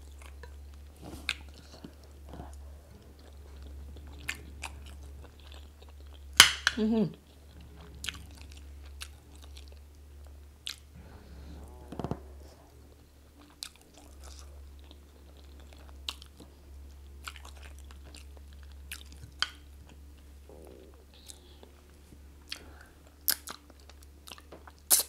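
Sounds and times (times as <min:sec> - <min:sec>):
chewing with wet mouth sounds: 0:00.0 - 0:25.0
steady low hum: 0:00.0 - 0:25.0.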